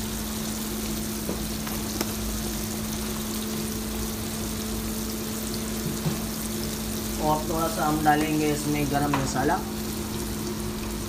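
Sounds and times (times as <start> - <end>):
gravy sizzling in a wok: 0.0 - 11.0.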